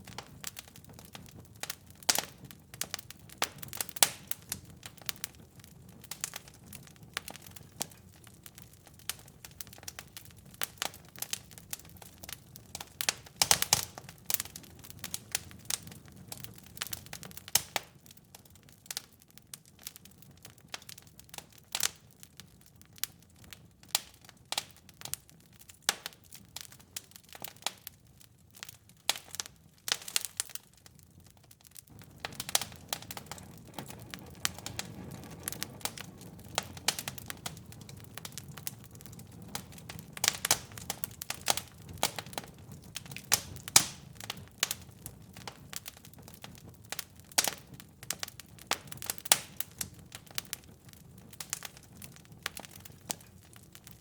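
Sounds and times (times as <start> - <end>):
soft hiss of burning: 0.0 - 54.0
wood fire crackling and popping: 0.0 - 54.0.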